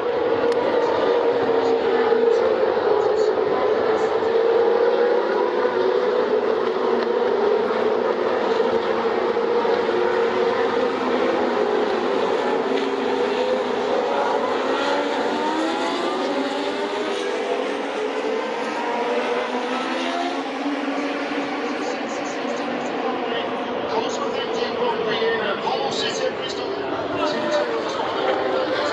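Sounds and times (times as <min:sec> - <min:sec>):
racing car engines: 0:00.0 - 0:28.9.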